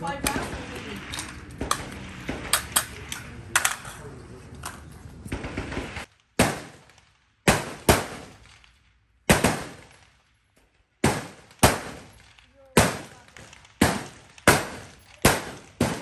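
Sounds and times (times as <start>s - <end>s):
rifle shots echoing: 0.0s - 10.4s, 11.0s - 16.0s.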